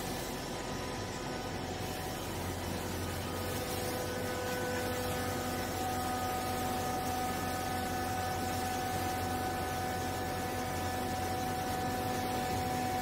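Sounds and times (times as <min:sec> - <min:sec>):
higher whine: 0:00.0 - 0:13.0
hydraulic baler motor humming: 0:00.0 - 0:13.0.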